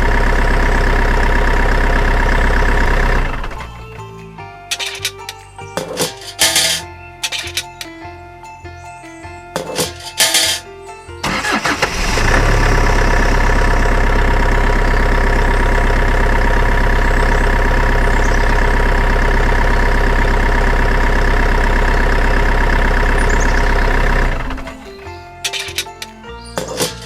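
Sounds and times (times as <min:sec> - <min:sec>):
small engine droning: 0:00.0 - 0:06.9, 0:11.2 - 0:27.0.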